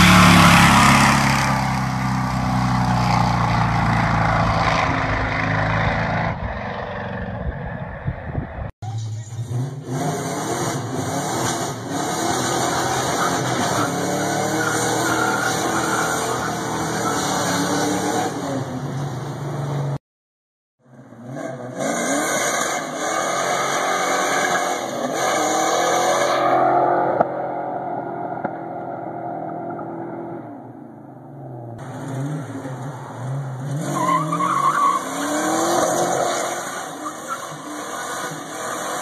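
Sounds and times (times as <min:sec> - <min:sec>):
car driving: 0:00.0 - 0:20.0, 0:20.9 - 0:39.0.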